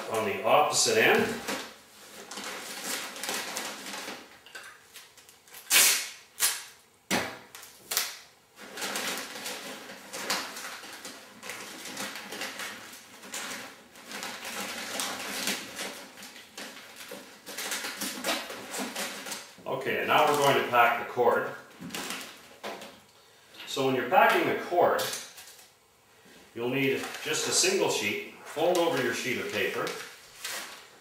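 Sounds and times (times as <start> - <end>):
packing paper rustling: 0.0 - 6.8, 7.4 - 25.7, 26.6 - 31.0.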